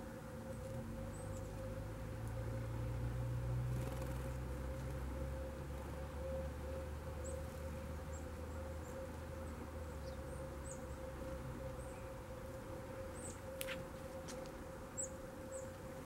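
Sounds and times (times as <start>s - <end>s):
constant hum: 0.0s - 16.0s
songbirds chirping: 0.0s - 16.0s.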